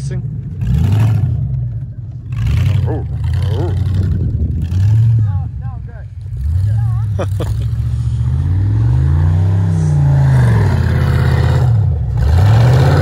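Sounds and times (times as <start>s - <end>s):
pickup truck engine revving: 0.0s - 13.0s.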